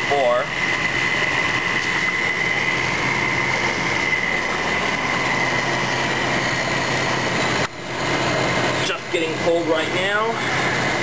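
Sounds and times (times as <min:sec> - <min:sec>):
window air conditioner running: 0:00.0 - 0:11.0.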